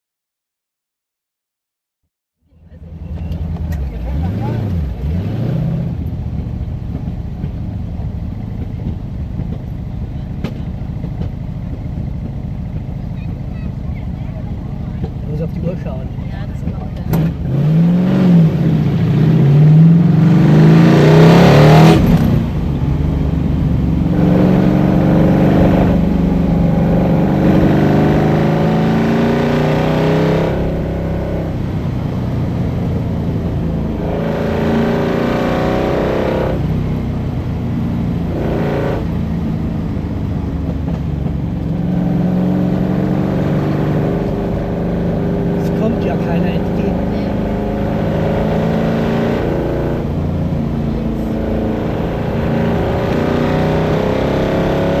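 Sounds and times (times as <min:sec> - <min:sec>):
car engine accelerating hard: 0:02.5 - 0:55.0.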